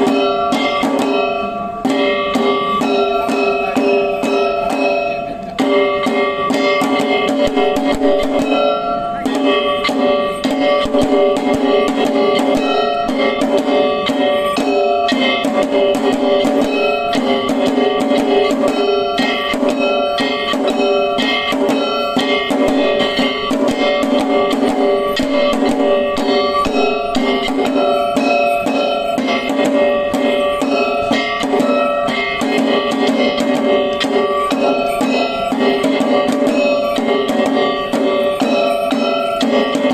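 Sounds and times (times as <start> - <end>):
drums beaten fast: 0.0 - 39.9
held ringing tones: 0.0 - 39.9.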